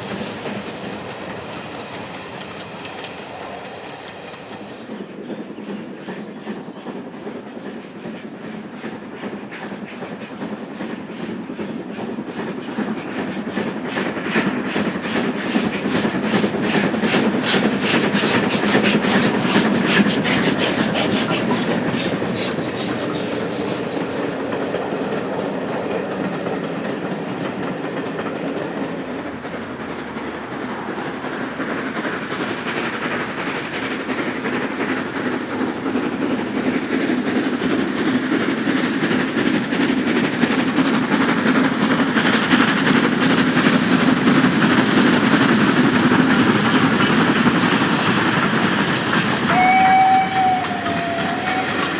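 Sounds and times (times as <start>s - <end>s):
steam train passing: 0.0s - 51.9s.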